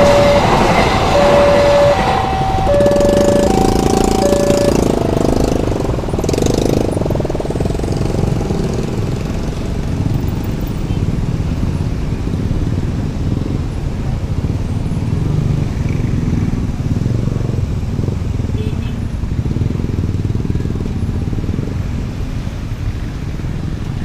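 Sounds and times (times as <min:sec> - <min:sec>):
motorcycles and scooters passing: 0:00.0 - 0:24.0.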